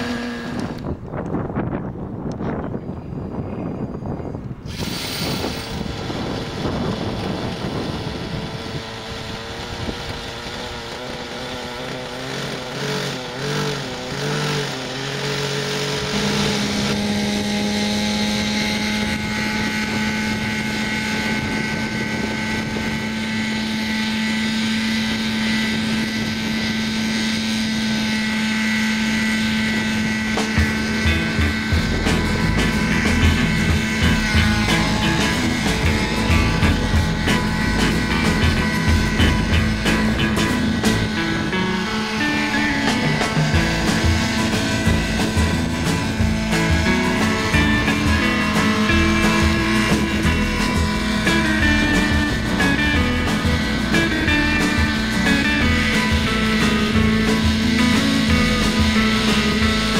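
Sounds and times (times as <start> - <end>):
model helicopter engine running: 0.0 - 59.9.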